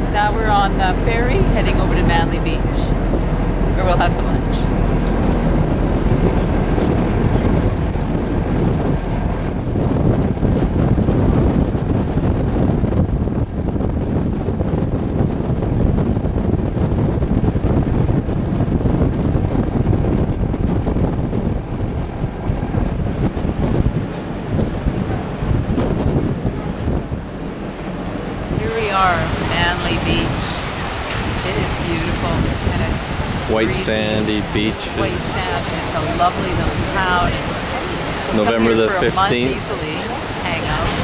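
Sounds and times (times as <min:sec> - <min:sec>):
boat rushing through water: 0:00.0 - 0:41.0
ferry low rumble: 0:00.0 - 0:41.0
wind buffeting microphone: 0:00.0 - 0:41.0.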